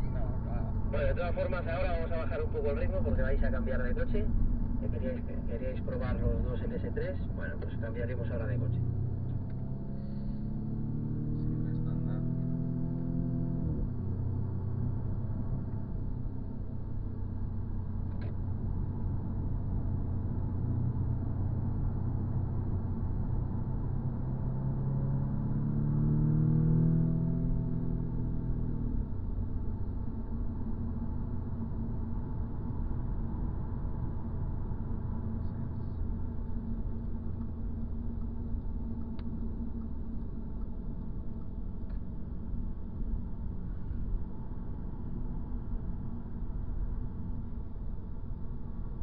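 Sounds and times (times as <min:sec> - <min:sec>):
car engine and tyre drone: 0:00.0 - 0:49.0.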